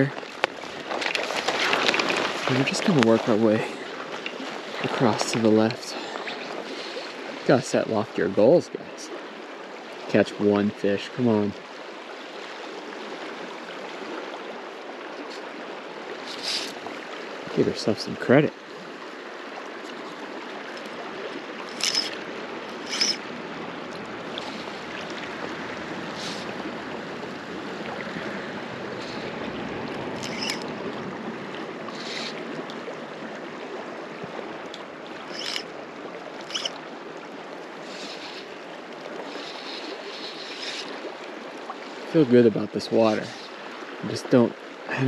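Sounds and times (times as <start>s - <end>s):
stream water rushing: 0.0s - 45.0s.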